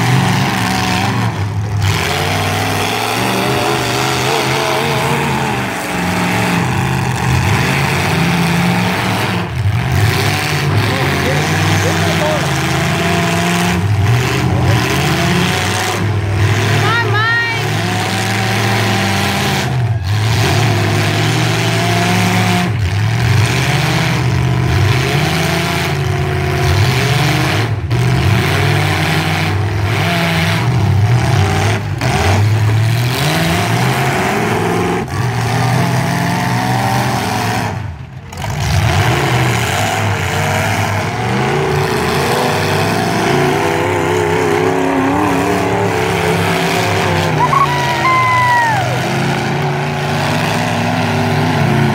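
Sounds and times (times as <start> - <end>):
truck engines revving: 0.0 - 51.9.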